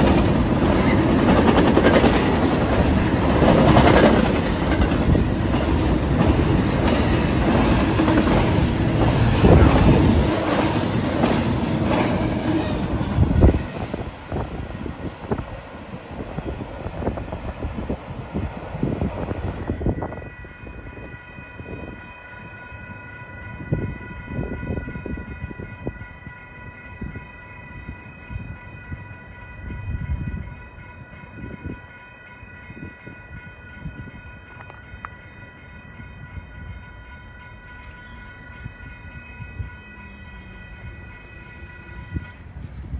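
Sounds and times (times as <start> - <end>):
railroad crossing bell ringing: 0.0 - 42.6.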